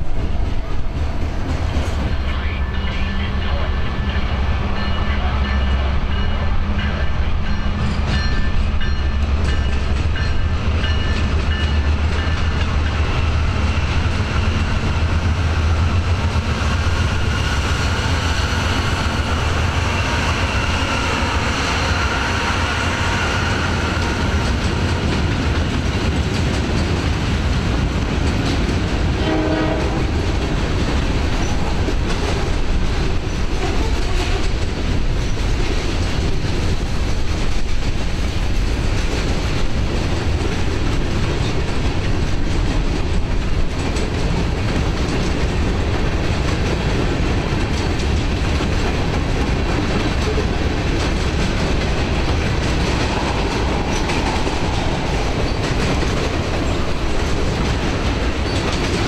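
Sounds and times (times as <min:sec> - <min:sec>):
diesel locomotive engines droning: 0:00.0 - 0:59.0
freight cars rumbling and rattling: 0:00.0 - 0:59.0.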